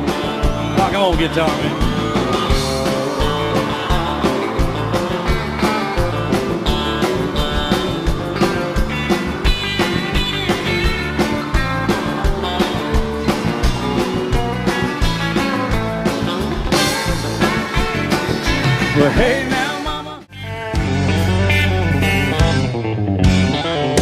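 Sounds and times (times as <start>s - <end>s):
country band playing: 0.0s - 24.0s
twangy electric guitar lead: 0.0s - 24.0s.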